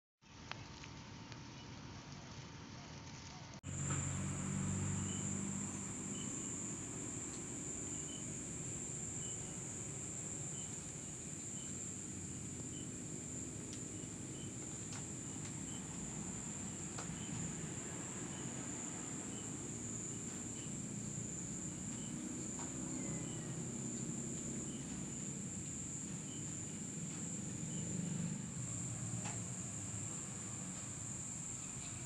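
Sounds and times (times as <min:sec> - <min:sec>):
faint insect chirps: 0:03.7 - 0:32.0
high-pitched insect trill: 0:03.7 - 0:32.0.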